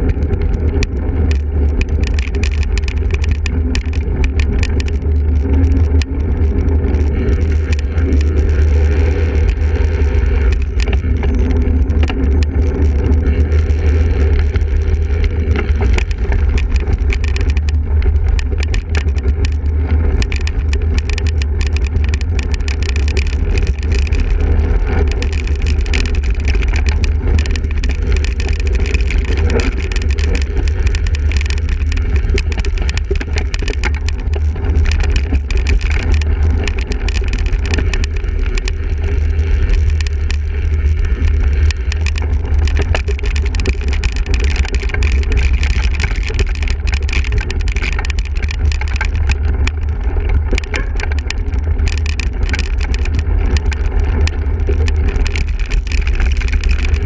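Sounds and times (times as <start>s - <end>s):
bike rattles and clicks: 0.0s - 57.0s
wind rumble on microphone: 0.0s - 57.0s.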